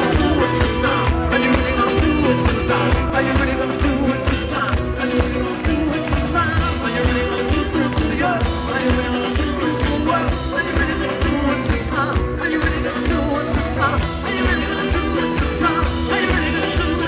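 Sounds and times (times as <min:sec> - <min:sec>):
electric guitar: 0:00.0 - 0:17.0
live rock band playing: 0:00.0 - 0:17.0
man singing lead vocal: 0:00.0 - 0:17.0
steady drum beat: 0:00.0 - 0:17.0.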